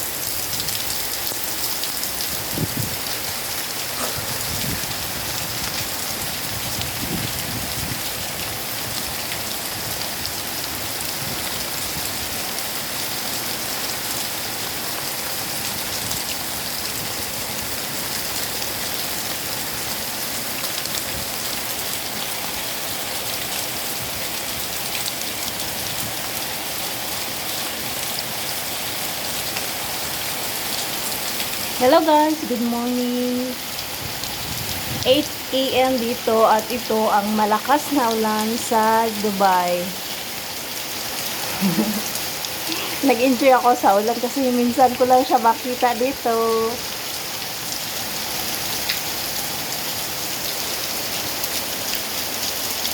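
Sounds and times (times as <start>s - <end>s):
heavy rain splashing: 0.0s - 52.9s.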